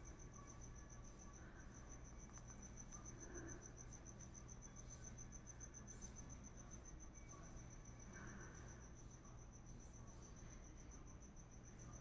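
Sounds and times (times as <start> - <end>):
cricket chirping: 0.0 - 12.0
low background hum: 0.0 - 12.0.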